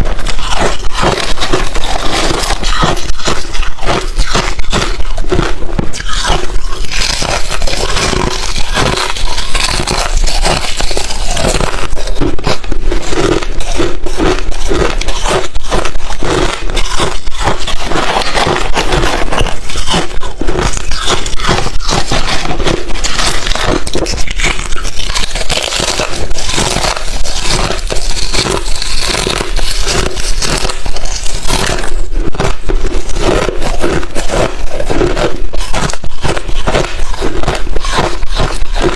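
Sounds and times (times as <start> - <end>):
ice chips crunched between teeth: 0.0 - 38.9.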